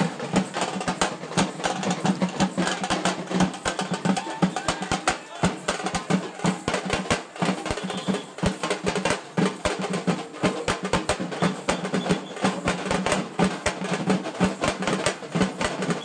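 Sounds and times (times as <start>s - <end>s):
fast drums and percussion: 0.0s - 16.0s.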